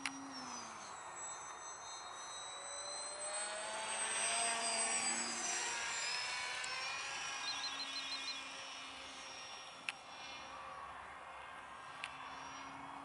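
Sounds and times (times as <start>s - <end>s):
rc plane motor whining: 0.0s - 13.0s.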